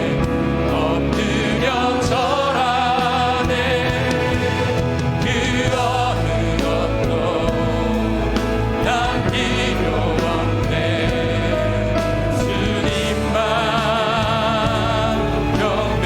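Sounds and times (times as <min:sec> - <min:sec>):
voices singing along: 0:00.0 - 0:16.0
worship band playing: 0:00.0 - 0:16.0.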